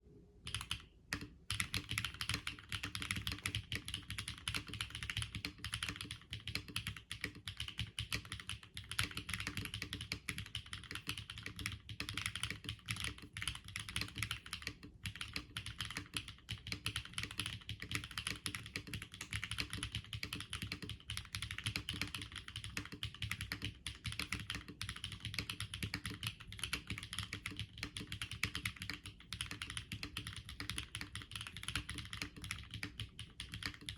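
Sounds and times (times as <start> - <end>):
mechanical keyboard typing: 0.5 - 33.9.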